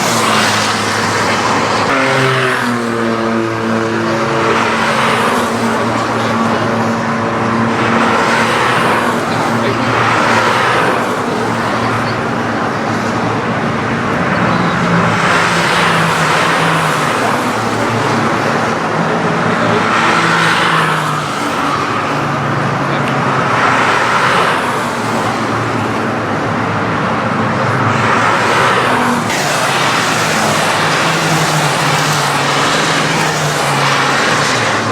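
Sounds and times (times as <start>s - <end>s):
race car engines: 0.0s - 34.9s.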